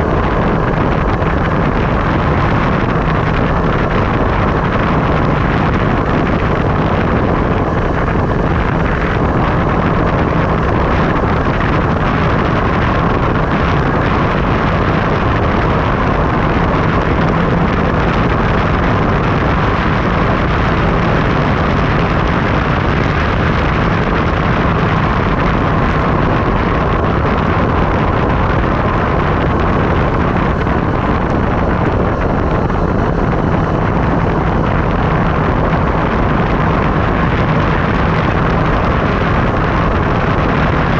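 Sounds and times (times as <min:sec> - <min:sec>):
constant hum: 0:00.0 - 0:40.9
wind buffeting a microphone: 0:00.0 - 0:40.9.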